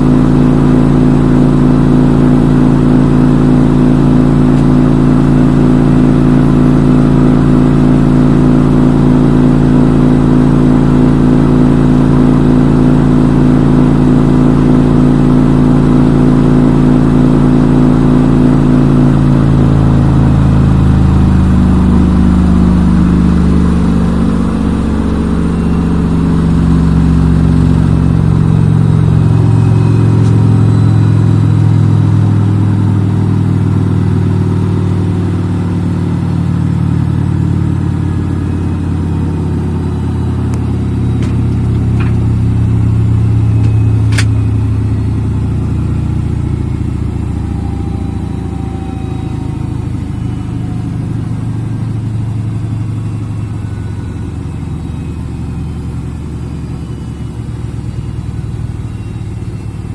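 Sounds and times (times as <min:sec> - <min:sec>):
washing machine spin cycle: 0:00.0 - 0:59.9.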